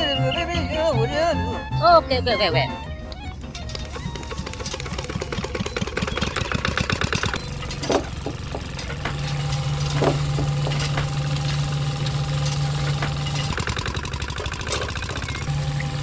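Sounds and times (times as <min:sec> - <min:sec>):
small electric motor humming: 0:03.0 - 0:16.0
rapid engine-like knocking: 0:03.2 - 0:16.0.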